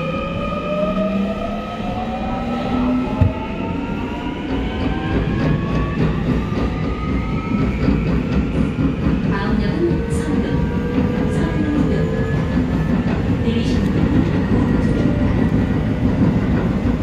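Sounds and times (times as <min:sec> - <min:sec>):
wheels rumbling on rail: 0:00.6 - 0:17.0.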